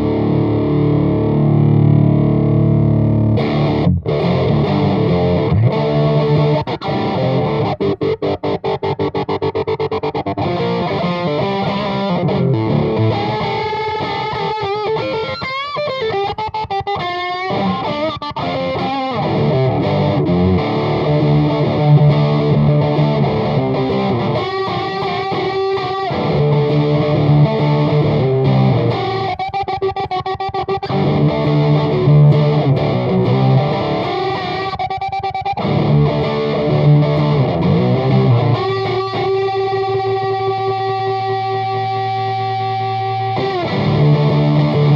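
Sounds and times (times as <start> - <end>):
distorted electric guitar rock jam: 0.0 - 44.9
guitar lead fills bending: 0.0 - 44.9
heavy distorted guitar chords: 0.0 - 44.9.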